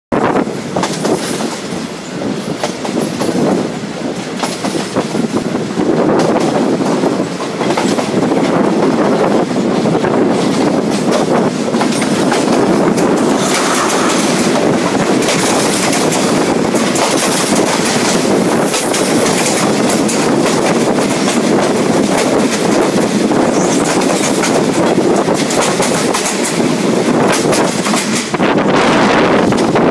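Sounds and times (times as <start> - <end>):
passing train carriages: 0.1 - 29.9
train rumble and rushing: 0.1 - 29.9
wheels clacking over rail joints: 0.7 - 1.9, 2.5 - 5.4, 6.0 - 28.5.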